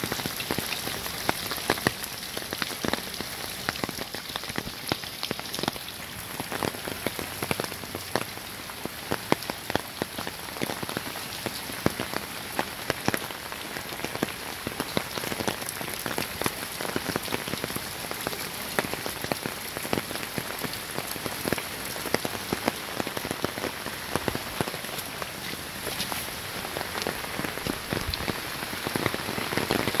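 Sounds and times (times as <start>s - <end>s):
heavy rain on standing water: 0.0s - 30.0s.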